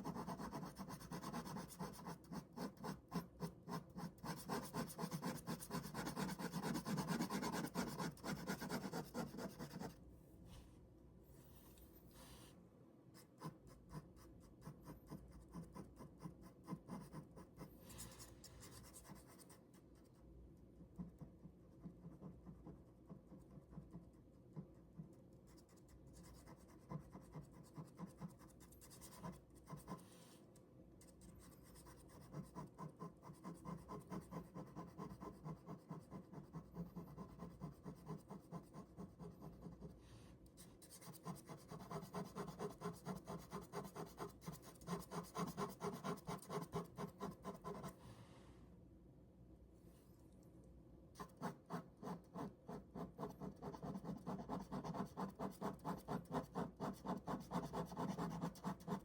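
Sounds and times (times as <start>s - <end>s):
ballpoint pen scratching on paper: 0.0s - 10.0s, 13.2s - 20.2s, 20.8s - 30.1s, 31.0s - 48.0s, 51.2s - 59.0s.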